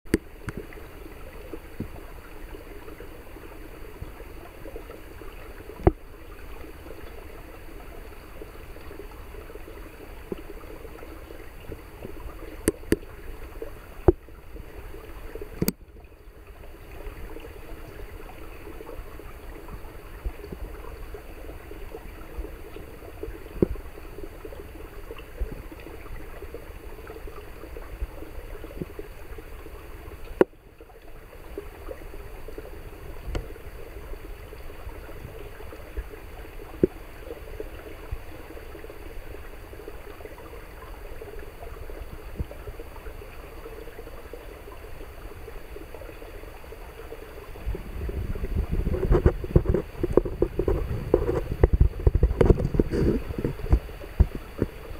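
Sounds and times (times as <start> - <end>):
creek trickling over rocks: 0.1 - 54.9.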